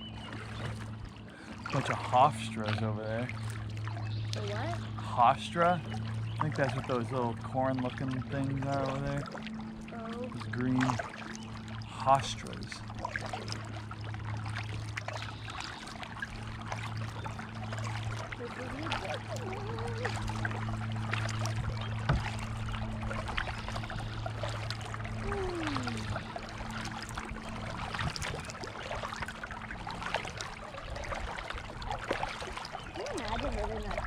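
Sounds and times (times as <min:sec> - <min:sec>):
paddles dipping into water: 0:00.0 - 0:34.0
steady low hum: 0:00.0 - 0:34.0
water dripping off paddles: 0:00.3 - 0:34.0.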